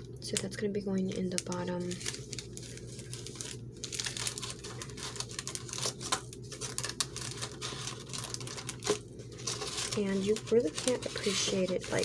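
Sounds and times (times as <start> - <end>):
cellophane crinkling: 0.0 - 12.0
steady low hum: 0.0 - 12.0.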